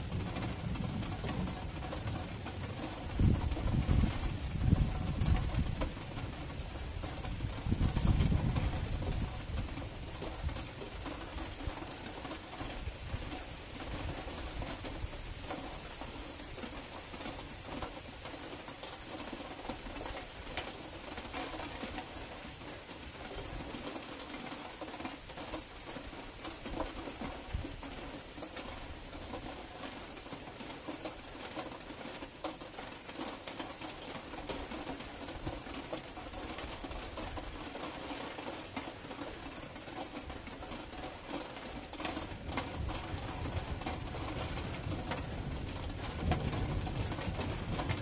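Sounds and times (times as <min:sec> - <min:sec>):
rain hiss: 0:00.0 - 0:48.0.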